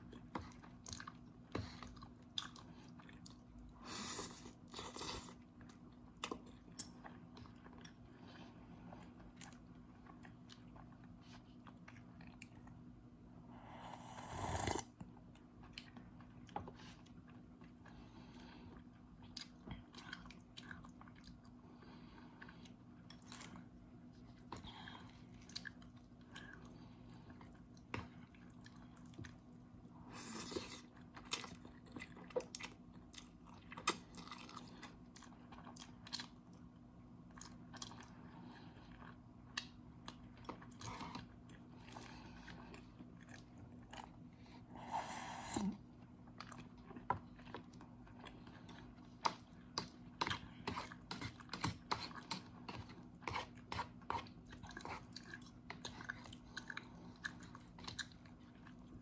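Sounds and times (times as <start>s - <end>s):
person chewing noodles: 0.0s - 12.9s, 13.8s - 59.0s.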